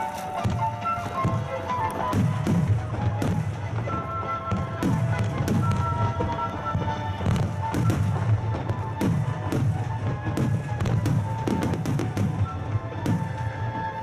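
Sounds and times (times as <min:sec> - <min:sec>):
fireworks cracks and booms: 0:00.0 - 0:14.0
music playing: 0:00.0 - 0:14.0.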